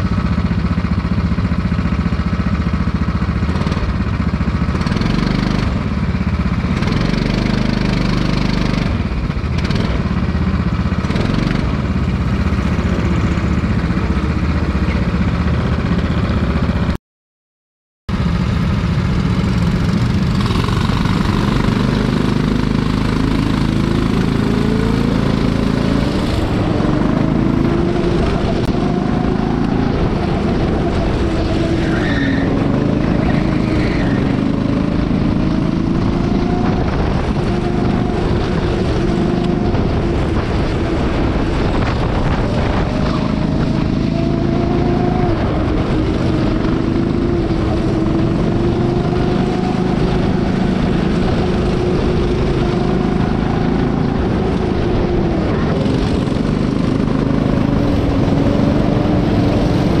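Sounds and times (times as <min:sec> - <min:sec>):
go-kart engine revving: 0:00.0 - 0:17.0, 0:18.1 - 1:00.0.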